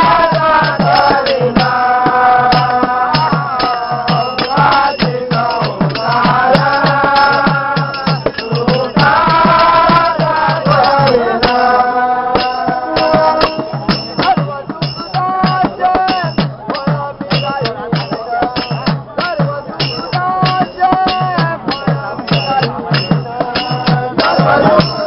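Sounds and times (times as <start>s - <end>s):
men singing in chorus: 0.0s - 25.0s
percussion beat with sharp clicks: 0.0s - 25.0s.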